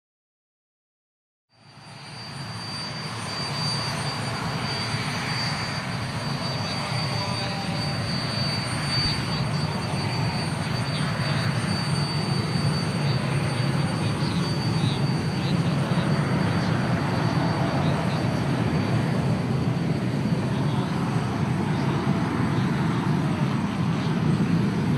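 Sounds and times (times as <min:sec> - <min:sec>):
jet engines whining on runway: 0:01.6 - 0:24.9.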